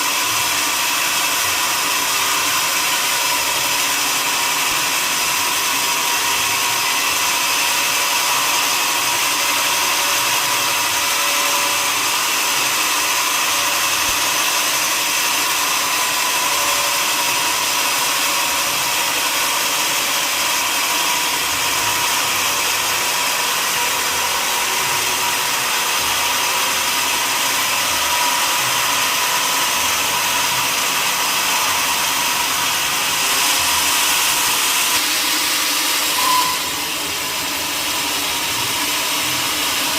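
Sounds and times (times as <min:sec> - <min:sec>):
sawmill saw hissing and whining: 0:00.0 - 0:39.9.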